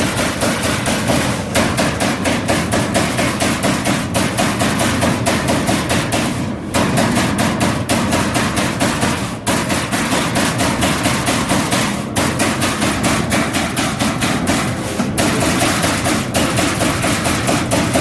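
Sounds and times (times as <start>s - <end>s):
punch press hammering sheet metal: 0.0s - 18.0s
steady machine hum: 0.0s - 18.0s.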